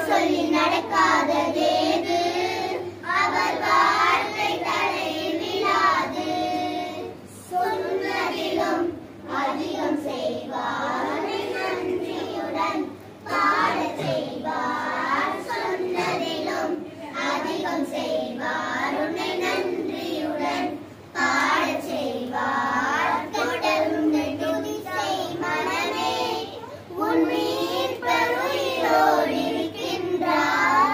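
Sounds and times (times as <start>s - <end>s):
children singing in unison: 0.0s - 30.9s.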